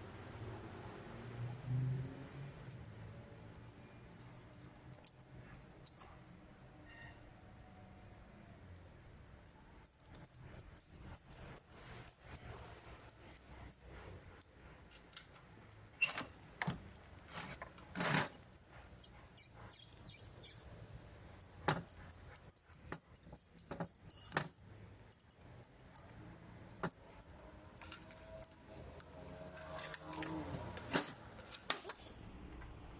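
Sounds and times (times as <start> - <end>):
metal parts and tools clinking: 2.6 - 7.8, 9.4 - 32.8.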